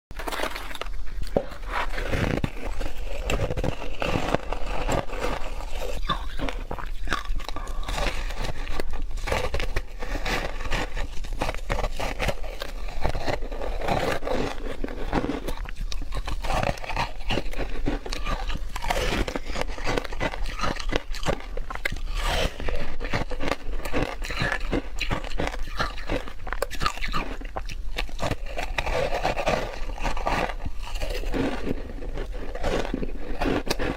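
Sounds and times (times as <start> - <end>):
ice being chewed: 0.2 - 33.9.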